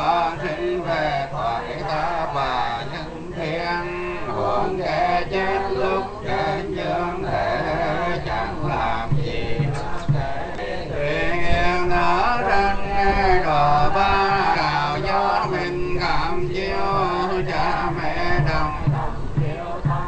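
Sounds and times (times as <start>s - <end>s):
monks chanting: 0.0s - 20.0s
low repeating beat: 1.8s - 20.0s.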